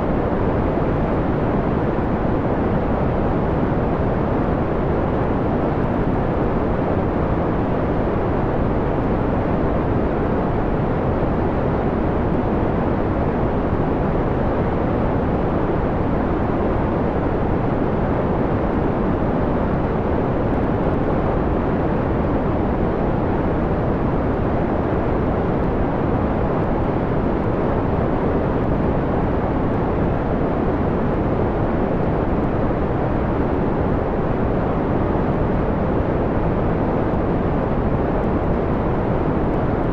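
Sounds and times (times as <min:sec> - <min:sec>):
dark white noise: 0:00.0 - 0:39.9.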